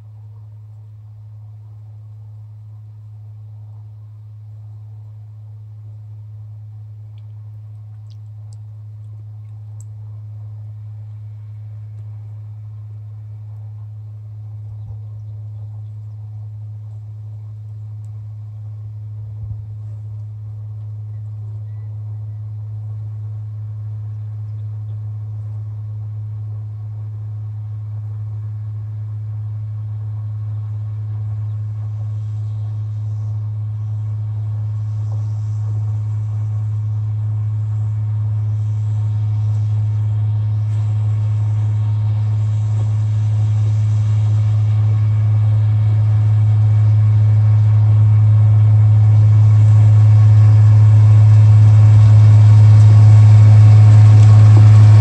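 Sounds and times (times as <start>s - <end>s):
rail running noise: 0.0s - 55.0s
truck engine hum: 0.0s - 55.0s.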